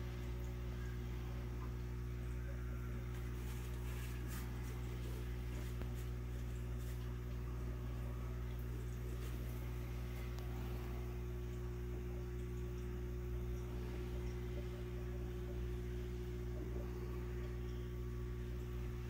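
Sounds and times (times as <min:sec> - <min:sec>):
aquarium pump humming: 0:00.0 - 0:19.0.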